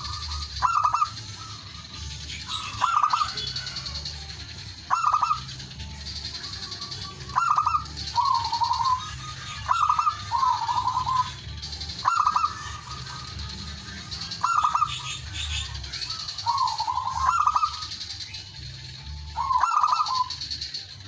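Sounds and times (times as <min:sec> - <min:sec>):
dove cooing call: 0:00.0 - 0:18.3, 0:19.2 - 0:20.8.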